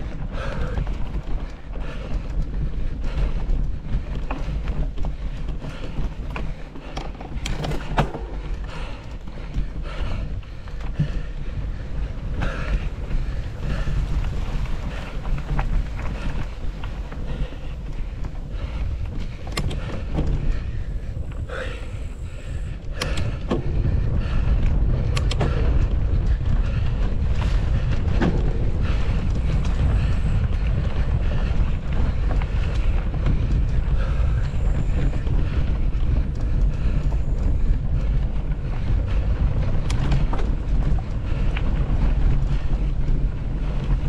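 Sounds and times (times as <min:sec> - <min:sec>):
bike clicks and rattles: 0:00.0 - 0:44.0
wind buffeting microphone: 0:00.0 - 0:44.0.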